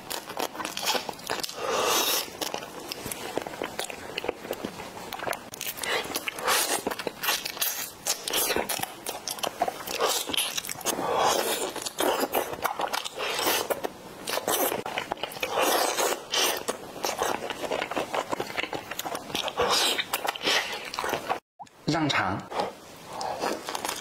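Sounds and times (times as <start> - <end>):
crab shell cracking and crunching: 0.0 - 21.4
wet sucking and chewing: 0.0 - 21.4.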